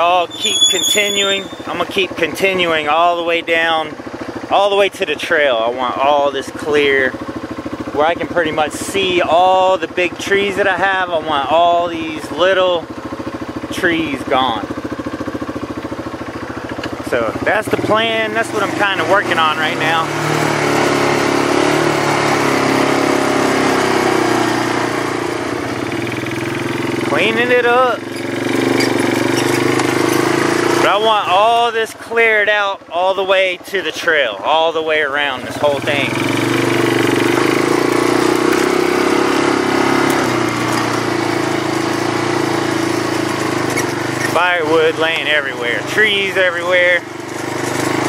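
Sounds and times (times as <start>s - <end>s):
small vehicle engine running: 0.0s - 48.0s.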